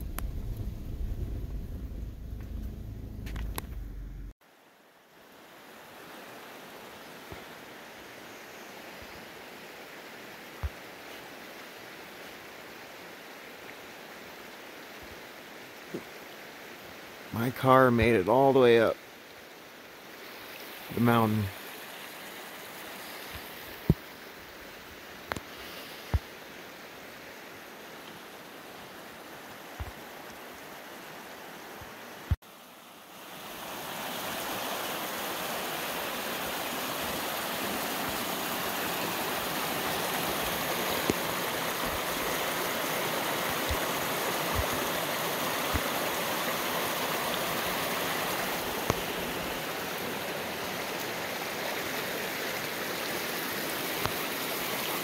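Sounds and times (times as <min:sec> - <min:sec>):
creek rushing: 0:04.5 - 0:55.0.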